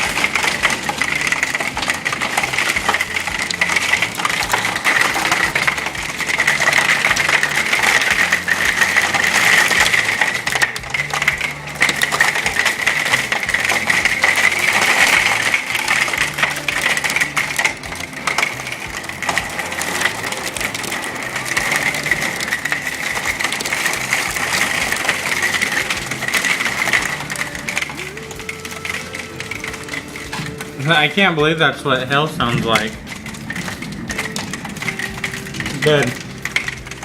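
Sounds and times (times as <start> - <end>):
hailstones clattering: 0.0 - 37.0.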